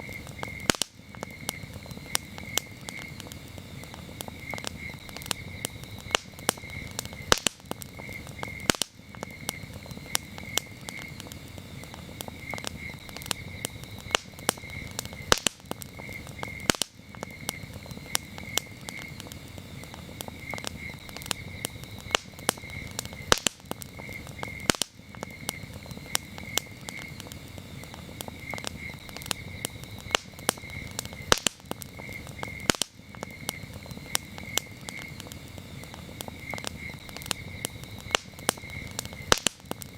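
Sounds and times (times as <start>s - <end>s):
campfire crackling and popping: 0.0s - 39.9s
crickets chirping: 0.0s - 39.9s
low hiss of burning: 0.0s - 39.9s.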